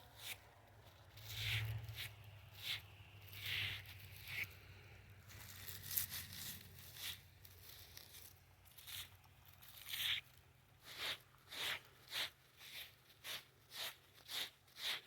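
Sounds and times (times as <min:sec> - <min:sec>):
rustling and scratching: 0:00.0 - 0:15.0.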